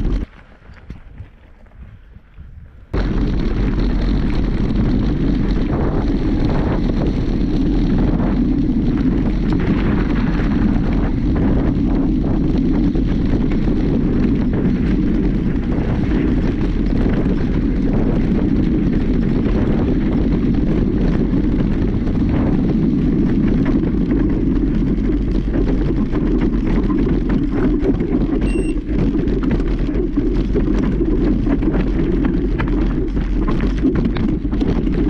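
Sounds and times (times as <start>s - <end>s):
bike clattering and rattling: 0.0s - 2.3s, 2.9s - 35.0s
wind buffeting microphone: 0.0s - 35.0s.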